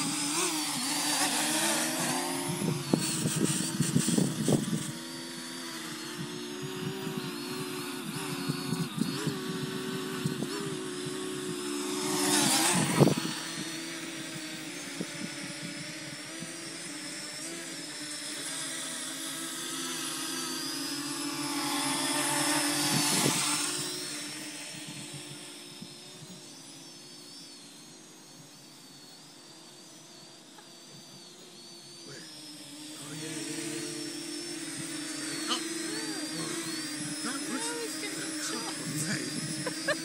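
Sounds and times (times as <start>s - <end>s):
drone propellers whining: 0.0s - 40.0s.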